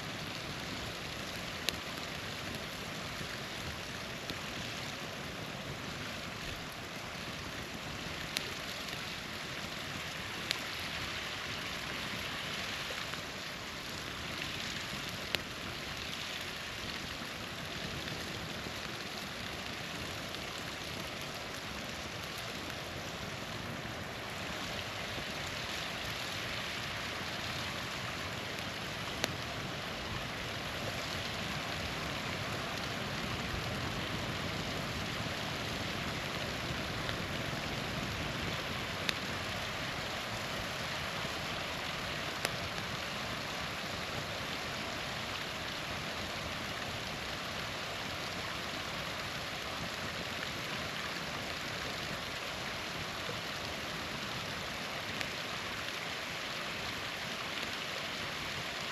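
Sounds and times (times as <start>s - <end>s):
campfire crackling and popping: 0.0s - 58.9s
small waterfall rushing: 0.0s - 58.9s.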